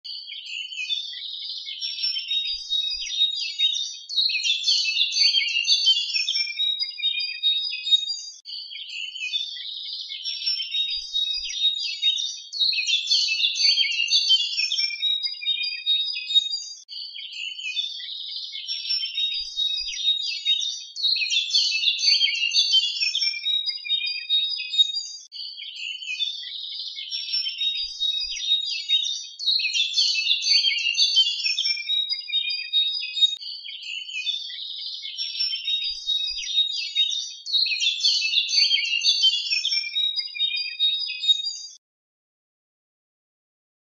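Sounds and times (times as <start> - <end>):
songbirds chirping: 0.1 - 41.8.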